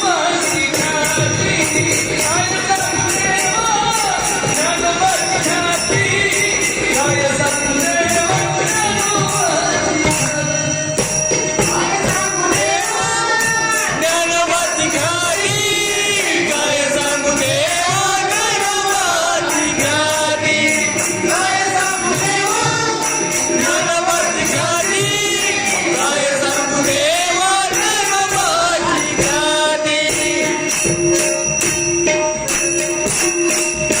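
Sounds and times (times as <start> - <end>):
person singing devotional song: 0.0 - 34.0
small hand cymbals jingling: 0.0 - 34.0.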